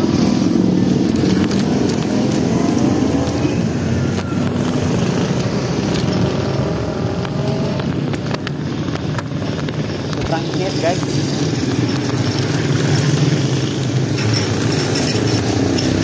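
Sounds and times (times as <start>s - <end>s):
vehicle engines running: 0.0s - 16.0s
wind and road noise: 0.0s - 16.0s.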